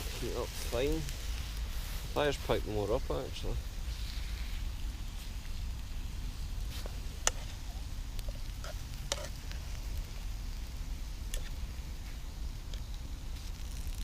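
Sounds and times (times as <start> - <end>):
campfire crackling: 0.0 - 14.0
low steady rumble: 0.0 - 14.0
sharp fire pops: 0.0 - 14.0.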